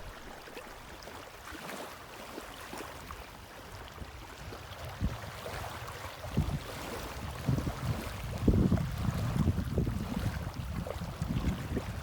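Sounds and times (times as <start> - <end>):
wind rumbling on microphone: 0.0 - 1.2, 3.0 - 12.0.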